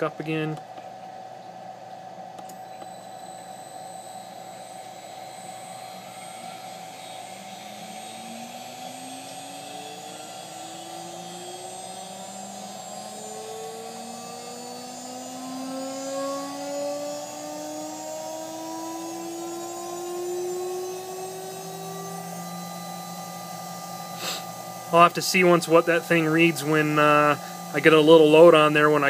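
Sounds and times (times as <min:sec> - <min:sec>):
router spindle whine rising: 0:00.0 - 0:29.0
steady hum: 0:00.0 - 0:29.0.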